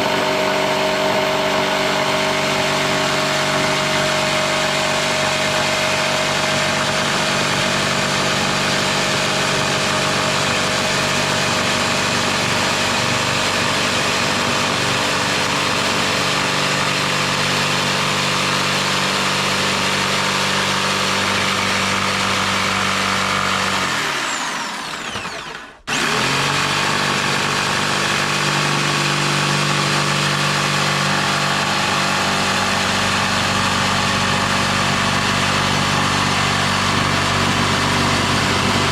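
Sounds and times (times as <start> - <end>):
electric power tool running: 0.0 - 38.9
motor spinning down whine: 0.0 - 38.9.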